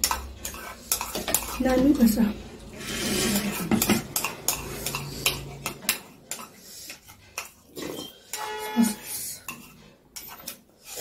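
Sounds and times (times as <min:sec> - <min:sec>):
spoons scraping ceramic bowls: 0:00.0 - 0:11.0.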